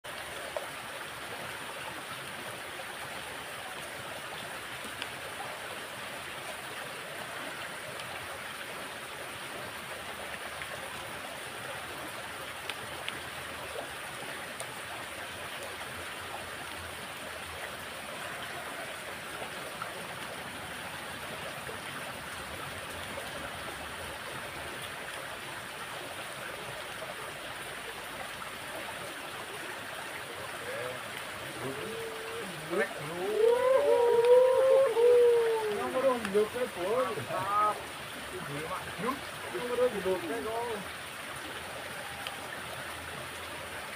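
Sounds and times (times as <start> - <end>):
water rushing along ditch: 0.0 - 43.9.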